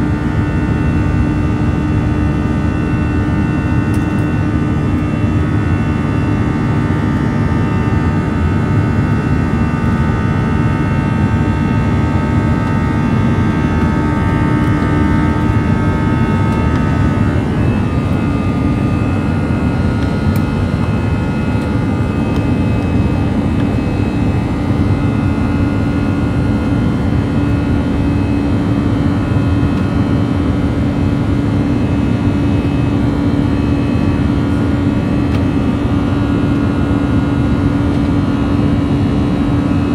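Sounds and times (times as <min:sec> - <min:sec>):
engine fan tones buzzing: 0:00.0 - 0:39.9
jet engine cabin rumble: 0:00.0 - 0:39.9.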